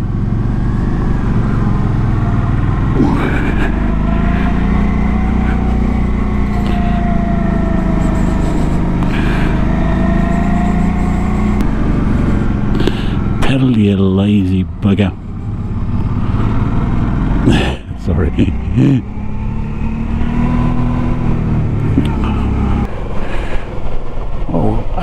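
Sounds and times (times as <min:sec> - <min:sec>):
motorcycle engine under load: 0:00.0 - 0:24.7
road and wind noise: 0:00.0 - 0:25.0.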